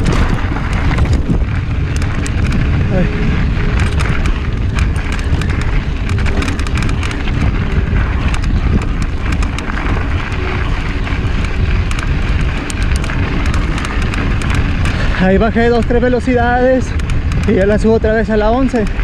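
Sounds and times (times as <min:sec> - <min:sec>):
bike and stones rattling: 0:00.0 - 0:19.0
wind buffeting microphone: 0:00.0 - 0:19.0.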